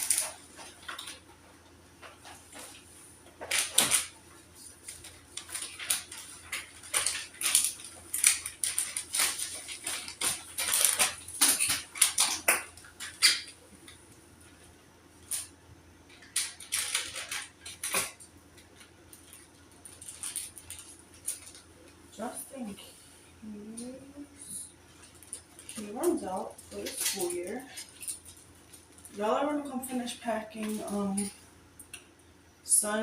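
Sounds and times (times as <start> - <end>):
household items rustling and clattering: 0.0 - 23.1, 24.4 - 31.4.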